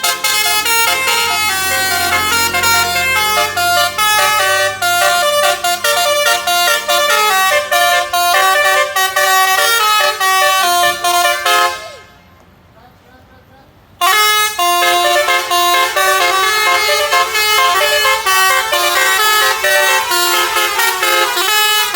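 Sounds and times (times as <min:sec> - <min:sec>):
multi-tone bus horn melody: 0:00.0 - 0:12.4, 0:14.0 - 0:21.9.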